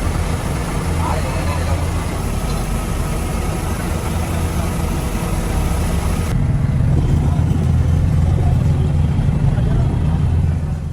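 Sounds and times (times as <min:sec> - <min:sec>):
boat engine droning: 0:00.0 - 0:10.9.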